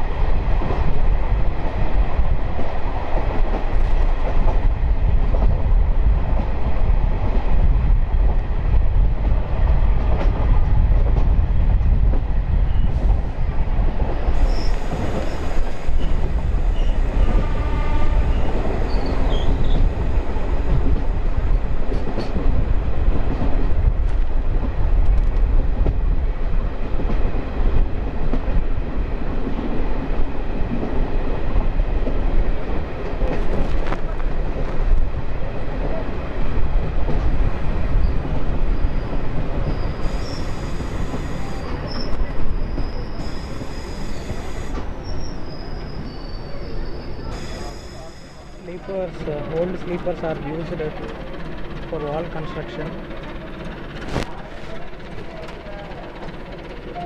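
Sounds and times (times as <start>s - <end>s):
train rumble on board: 0.0s - 57.0s.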